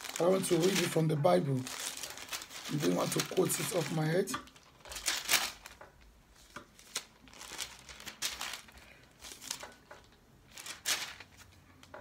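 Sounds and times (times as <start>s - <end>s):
pages turning: 1.6s - 5.8s, 6.4s - 12.0s.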